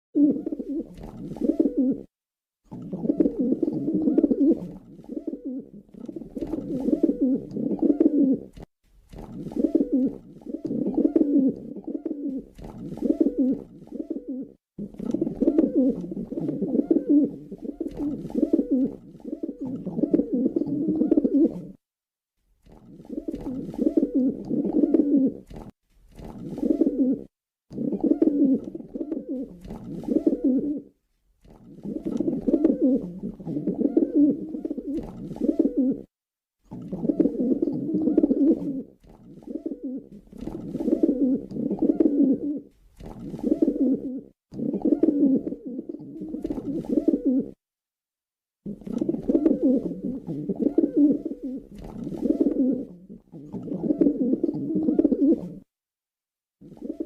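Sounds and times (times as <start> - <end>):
pigeons cooing: 0.2 - 2.1, 2.7 - 8.6, 9.3 - 21.8, 22.8 - 25.7, 26.3 - 30.9, 31.5 - 36.1, 36.7 - 47.6, 48.7 - 55.7, 56.6 - 57.0.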